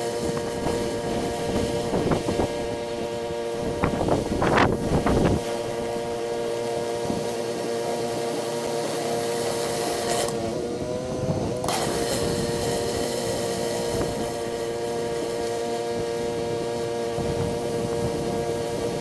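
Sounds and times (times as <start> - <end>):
water spray hissing: 0.0 - 10.4, 11.6 - 19.0
pressure washer engine running: 0.0 - 19.0.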